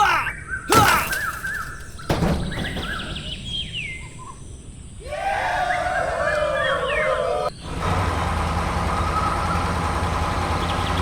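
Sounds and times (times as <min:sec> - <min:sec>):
birds chirping: 0:00.0 - 0:07.8, 0:08.9 - 0:11.0.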